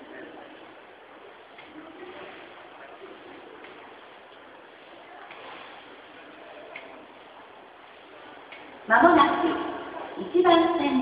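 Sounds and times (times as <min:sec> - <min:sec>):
subway platform ambience: 0:00.0 - 0:11.0.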